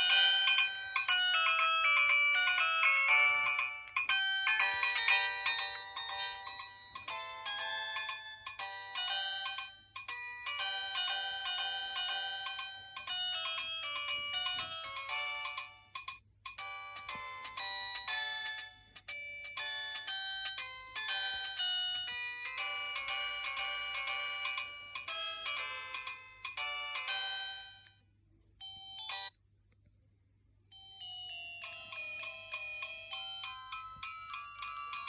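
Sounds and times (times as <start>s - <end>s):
chiming ringtone melodies: 0.0s - 29.3s, 30.7s - 35.0s.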